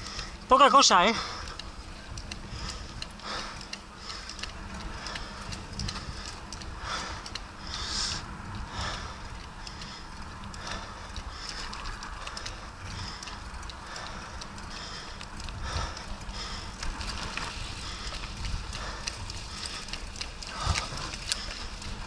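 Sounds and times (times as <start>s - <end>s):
bike rattling clicks: 0.0s - 22.0s
bike tyres rumbling on asphalt: 0.0s - 22.0s.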